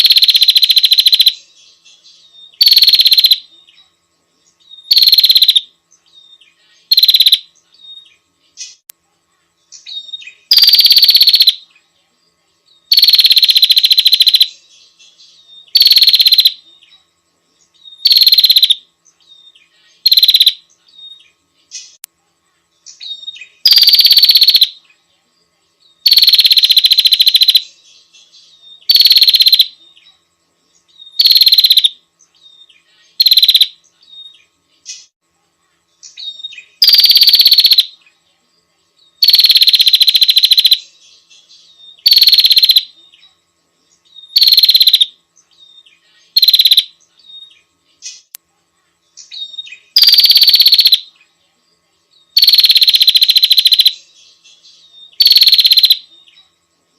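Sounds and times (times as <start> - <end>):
bird buzzy trilled calls: 0.0 - 3.9, 4.5 - 8.9, 9.7 - 11.7, 12.9 - 17.0, 17.6 - 22.0, 22.8 - 24.8, 26.0 - 30.1, 30.8 - 35.2, 36.0 - 38.0, 39.2 - 43.2, 43.9 - 48.3, 49.2 - 51.2, 52.3 - 56.4.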